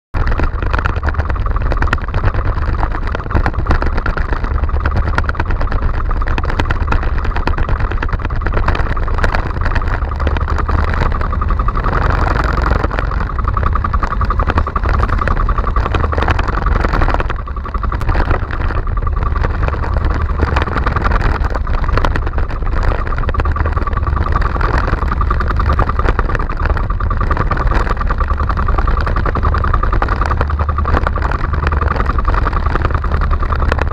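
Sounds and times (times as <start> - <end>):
boat engine running: 0.1 - 33.9.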